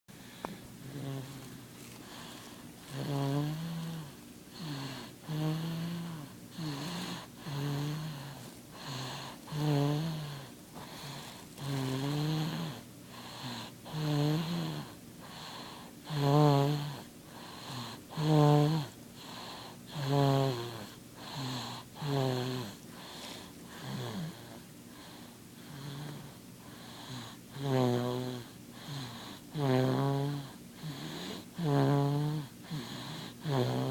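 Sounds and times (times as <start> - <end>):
baby snoring: 0.3 - 33.9.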